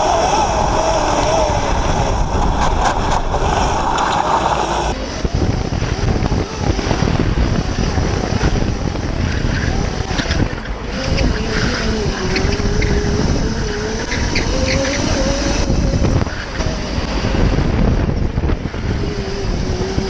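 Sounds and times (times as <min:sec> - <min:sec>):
tyre noise: 0:00.0 - 0:17.6
electric motor whine: 0:00.0 - 0:17.7
wind buffeting microphone: 0:00.0 - 0:20.0.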